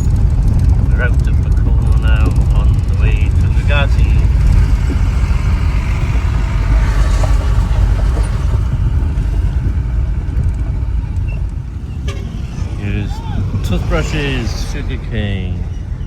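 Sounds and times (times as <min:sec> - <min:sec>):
engine hum: 0:00.0 - 0:16.0
tyre and road noise: 0:00.0 - 0:16.0
vehicle rumbling over rough road: 0:00.0 - 0:16.0.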